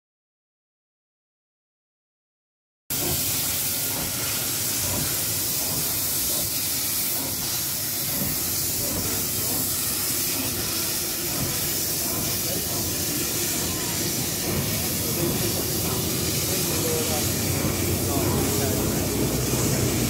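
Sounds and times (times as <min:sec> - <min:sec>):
steam locomotive hissing: 0:02.9 - 0:20.0.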